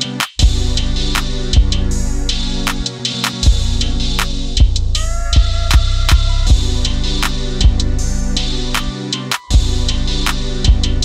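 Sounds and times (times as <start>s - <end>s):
music with drum beat: 0.0s - 11.0s.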